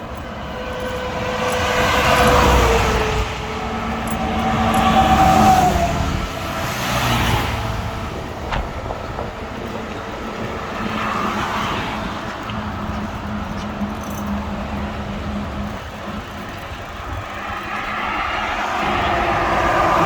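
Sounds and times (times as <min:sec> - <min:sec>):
steady traffic noise: 0:00.0 - 0:20.0
motor vehicle passing: 0:00.4 - 0:20.0.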